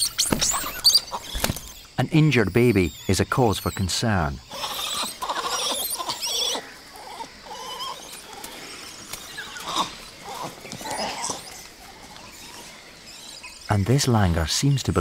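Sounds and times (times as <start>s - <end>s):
monkeys high-pitched calls: 0.0s - 13.7s.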